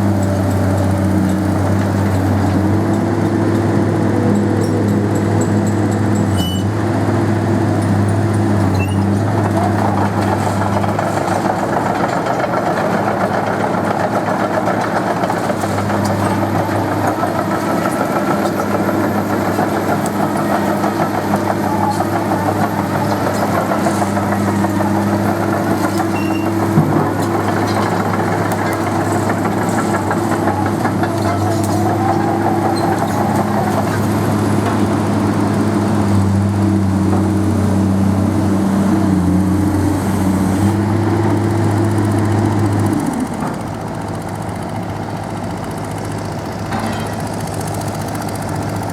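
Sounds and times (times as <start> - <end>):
excavator diesel engine running: 0.0 - 48.9
mid-pitched working noise: 0.0 - 48.9.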